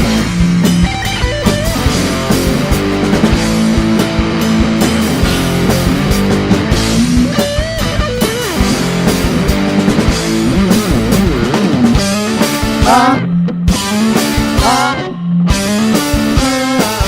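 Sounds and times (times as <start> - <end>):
bass guitar: 0.0 - 17.0
drums: 0.0 - 17.0
rock guitar sliding notes: 0.0 - 17.0.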